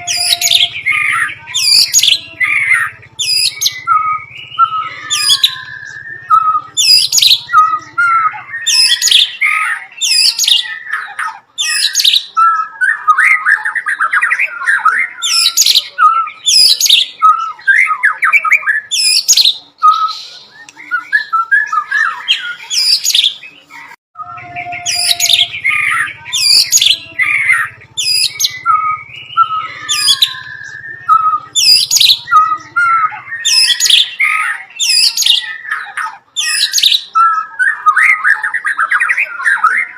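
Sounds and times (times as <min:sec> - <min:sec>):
bird singing sharp high notes: 0:00.0 - 0:39.9
bird twittering: 0:00.0 - 0:39.9.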